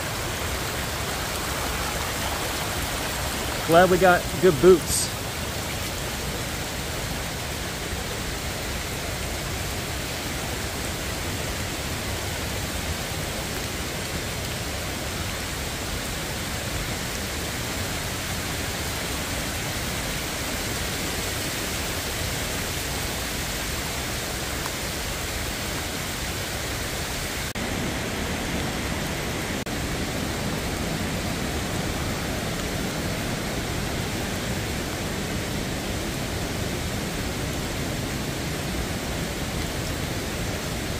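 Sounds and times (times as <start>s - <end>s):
falling rain: 0.0s - 40.9s
mountain stream rushing: 0.0s - 40.9s.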